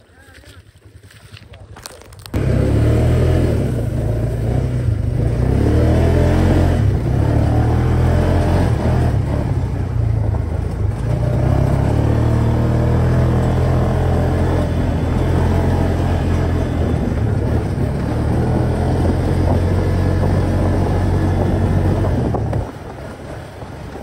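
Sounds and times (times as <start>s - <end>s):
dune buggy engine running: 2.0s - 24.0s.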